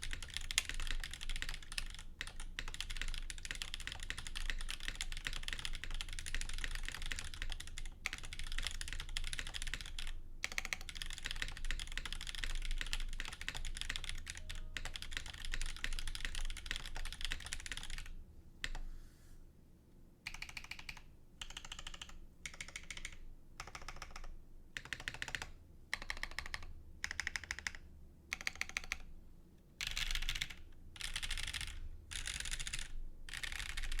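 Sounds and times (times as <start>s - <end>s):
fast mechanical keyboard typing: 0.0s - 18.8s, 20.3s - 29.1s, 29.8s - 34.0s.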